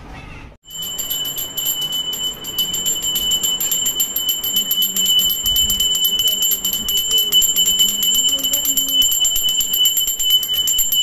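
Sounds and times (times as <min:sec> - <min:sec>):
hand bell rung rapidly: 0:00.6 - 0:11.0.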